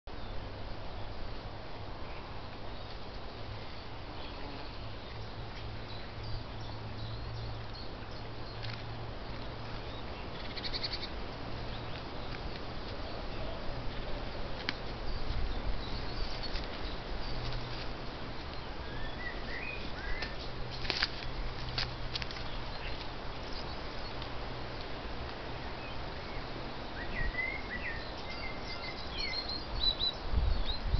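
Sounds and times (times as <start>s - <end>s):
small birds chirping: 2.0s - 30.9s.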